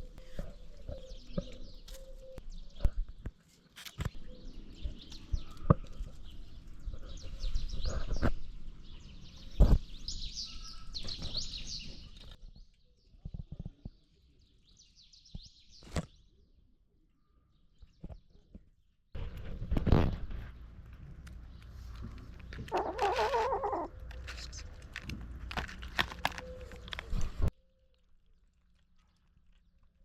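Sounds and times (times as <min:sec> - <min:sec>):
small birds chirping: 0:00.0 - 0:18.6, 0:19.3 - 0:28.4.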